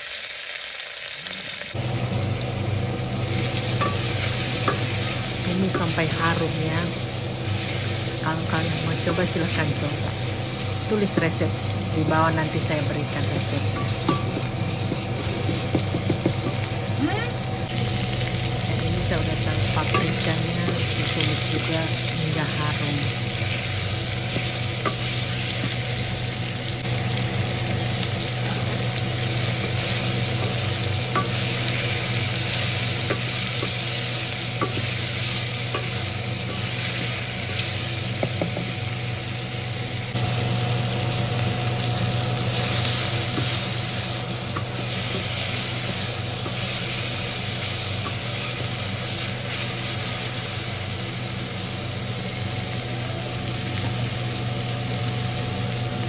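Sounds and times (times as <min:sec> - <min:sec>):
vegetables sizzling in a pot: 0:00.0 - 0:56.0.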